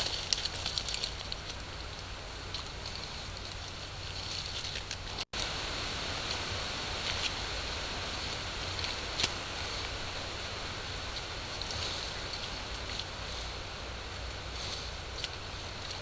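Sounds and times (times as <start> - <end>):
recording hiss and hum: 0.0 - 16.0.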